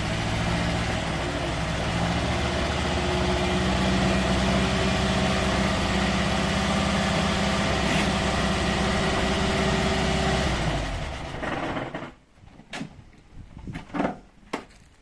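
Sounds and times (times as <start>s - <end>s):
old car engine running: 0.0s - 12.2s.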